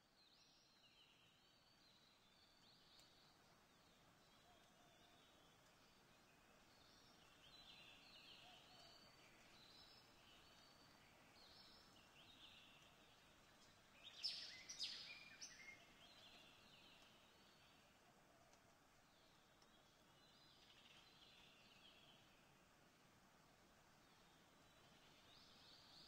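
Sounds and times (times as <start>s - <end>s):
soft background hiss: 0.0s - 26.0s.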